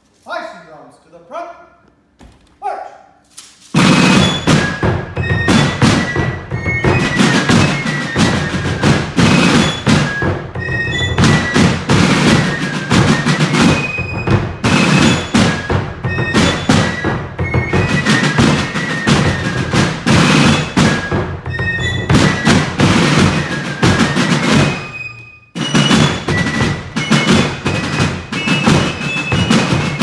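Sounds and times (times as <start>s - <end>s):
snare drums beating: 3.7s - 30.0s.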